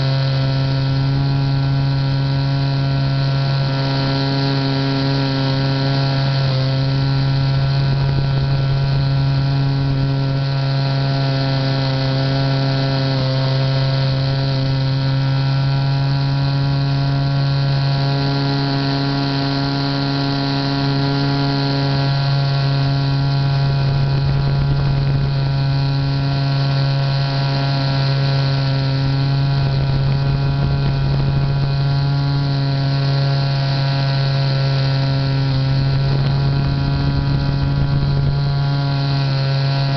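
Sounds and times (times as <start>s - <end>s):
model plane motor and propeller: 0.0s - 39.9s.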